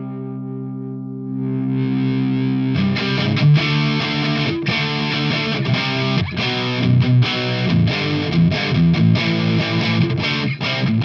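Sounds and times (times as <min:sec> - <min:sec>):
distorted electric guitar chords: 0:00.0 - 0:11.0.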